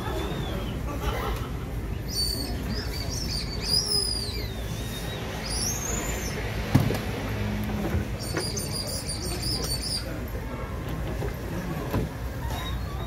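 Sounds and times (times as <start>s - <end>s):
street food stall background noise: 0.0s - 13.0s.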